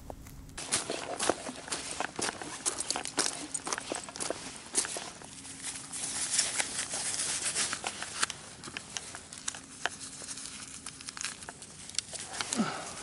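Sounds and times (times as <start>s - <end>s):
faint low hum: 0.0s - 13.0s
footsteps crunching over shells: 0.0s - 13.0s.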